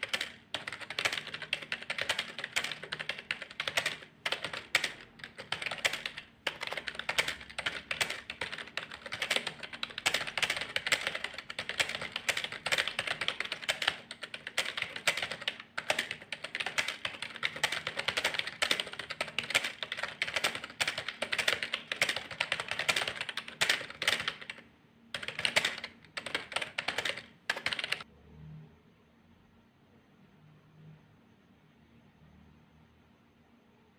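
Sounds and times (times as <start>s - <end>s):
fast keyboard typing: 0.0s - 28.1s.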